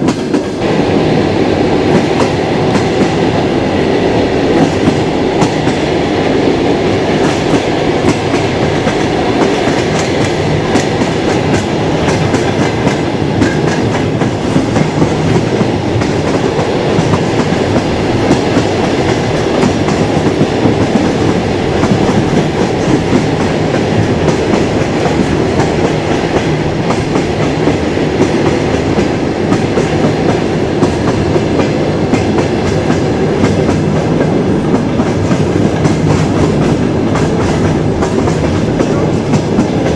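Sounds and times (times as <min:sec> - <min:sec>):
train rolling rumble: 0:00.0 - 0:39.9
train wheels clattering over rail joints: 0:07.2 - 0:39.9.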